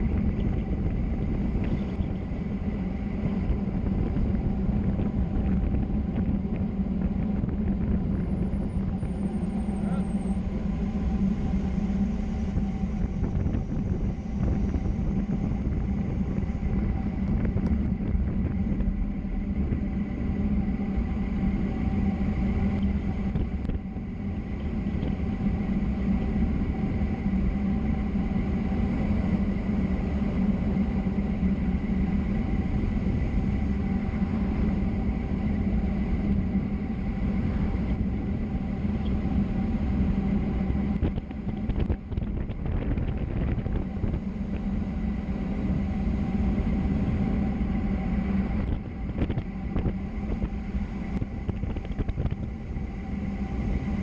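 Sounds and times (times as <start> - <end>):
road noise: 0.0 - 54.0
vehicle engine hum: 0.0 - 54.0.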